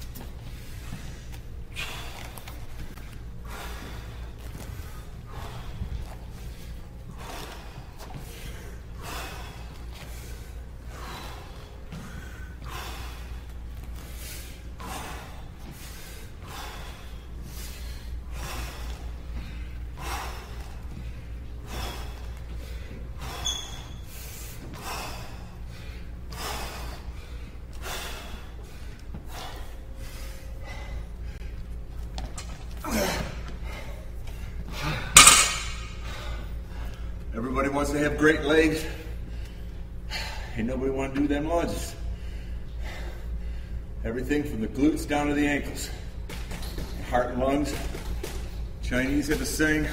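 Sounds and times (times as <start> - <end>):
low hum: 0.0 - 47.4
man breathing hard: 0.1 - 37.3, 38.7 - 40.7, 41.6 - 44.0.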